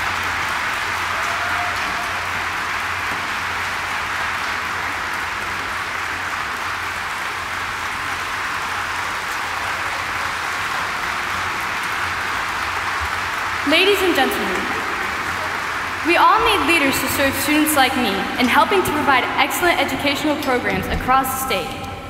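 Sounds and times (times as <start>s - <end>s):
audience applauding: 0.0s - 20.5s.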